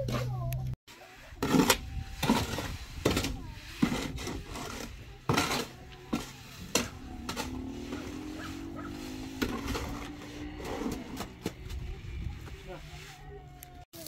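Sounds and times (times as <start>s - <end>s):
hand tools on concrete: 0.0s - 14.0s.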